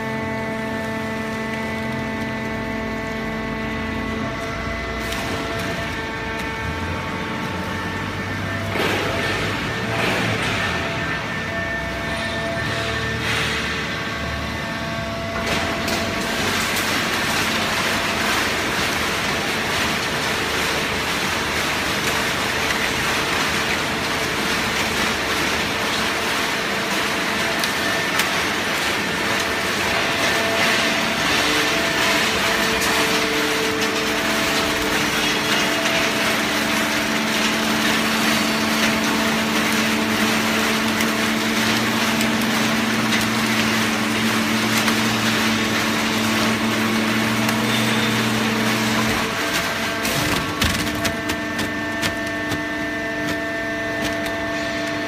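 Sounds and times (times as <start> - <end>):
baling press machine hum: 0.0 - 55.0.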